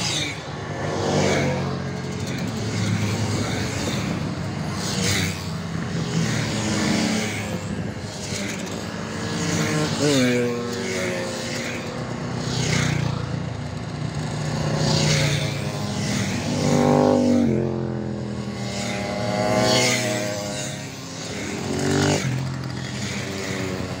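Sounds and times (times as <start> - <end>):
mopeds passing by: 0.0 - 24.0.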